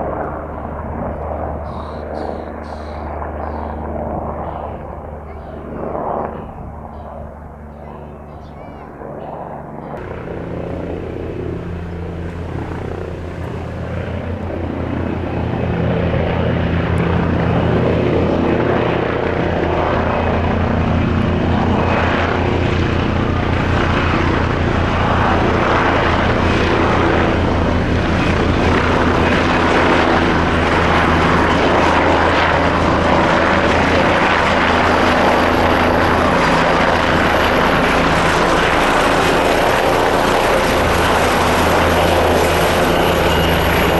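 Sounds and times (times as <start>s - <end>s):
helicopter engine noise: 0.0s - 43.9s
helicopter rotor beating: 0.0s - 43.9s.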